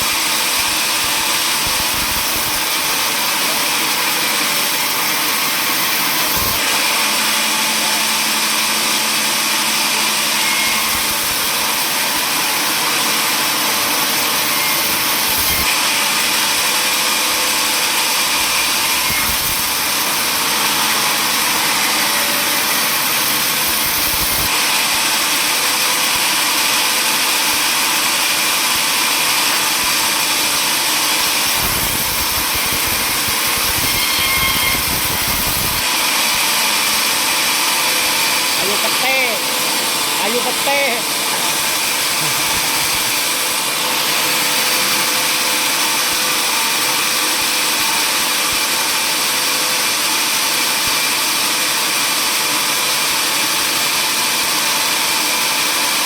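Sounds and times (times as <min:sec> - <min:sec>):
power saw running: 0:00.0 - 0:56.0.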